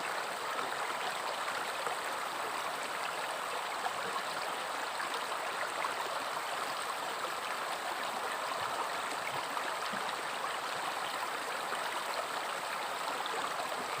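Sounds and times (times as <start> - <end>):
river water flowing over stones: 0.0 - 14.0.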